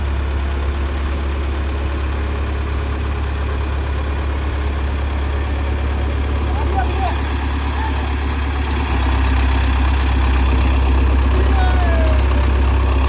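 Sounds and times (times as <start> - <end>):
diesel tractor engine droning: 0.0 - 13.0.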